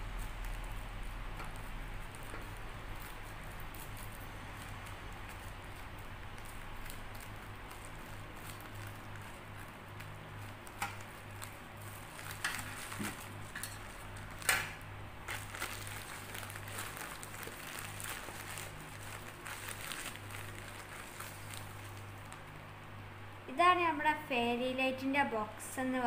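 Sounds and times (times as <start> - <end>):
plastic bag rustling: 0.0 - 22.7.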